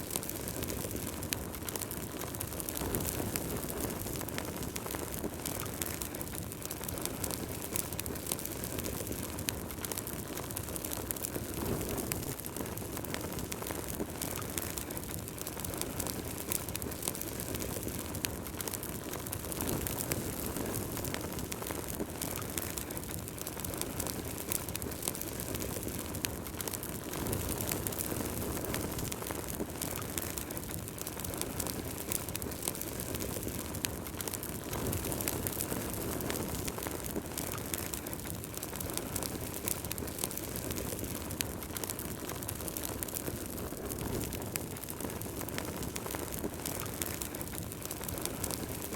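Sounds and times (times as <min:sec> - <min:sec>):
fire crackling and popping: 0:00.0 - 0:48.9
fire flames rushing: 0:00.0 - 0:48.9.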